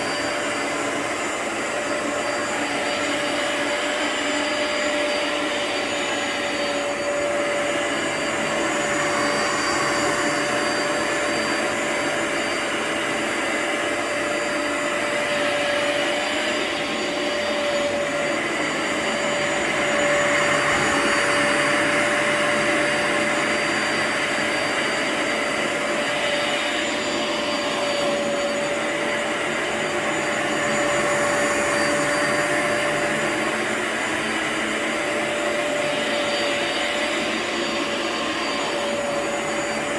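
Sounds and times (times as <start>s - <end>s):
carpet cleaner motor whining: 0.0s - 39.9s.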